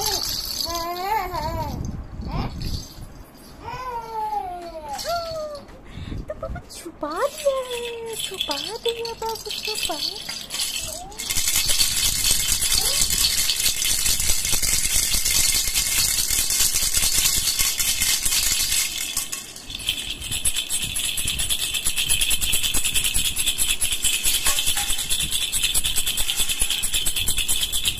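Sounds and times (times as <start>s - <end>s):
baby rattle shaken: 0.0s - 5.7s, 7.2s - 27.9s.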